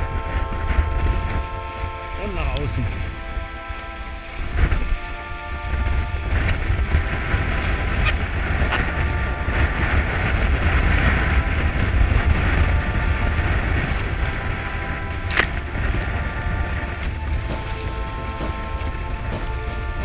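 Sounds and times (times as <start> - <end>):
water rushing along hulls: 0.0 - 20.0
wind buffeting microphone: 0.0 - 20.0.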